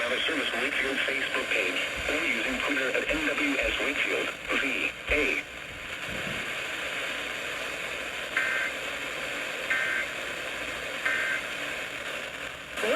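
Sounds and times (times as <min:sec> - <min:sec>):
radio static: 0:00.0 - 0:12.9.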